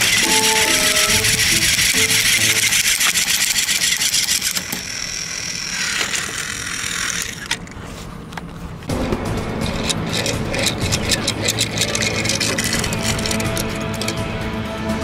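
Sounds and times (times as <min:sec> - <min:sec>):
toy train motor whirring: 0:00.0 - 0:07.8, 0:09.6 - 0:14.2.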